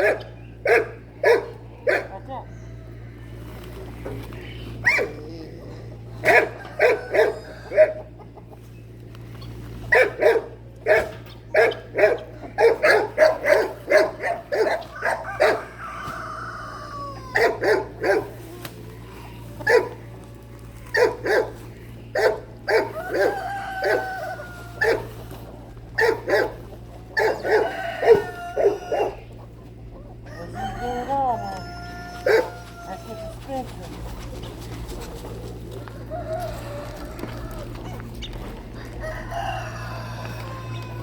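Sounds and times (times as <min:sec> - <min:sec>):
dogs barking: 0:00.0 - 0:02.5, 0:04.7 - 0:08.6, 0:09.5 - 0:18.5, 0:19.3 - 0:41.0.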